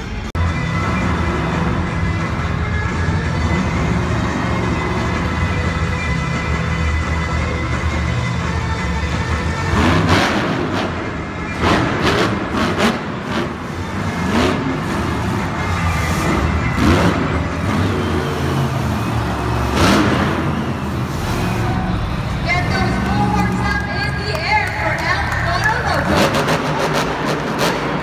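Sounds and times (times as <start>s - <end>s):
truck engines revving: 0.0s - 28.0s.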